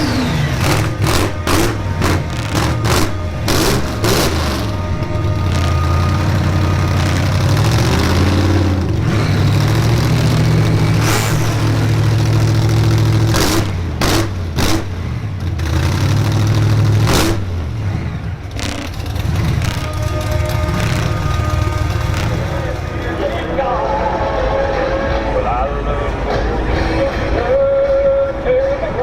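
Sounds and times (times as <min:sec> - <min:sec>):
diesel truck engine: 0:00.0 - 0:29.0.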